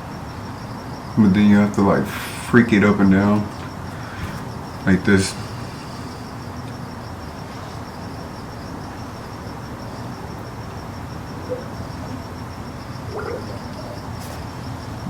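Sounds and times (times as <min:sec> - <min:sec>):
insect chirping: 0:00.0 - 0:15.0
low background hum: 0:00.0 - 0:15.0.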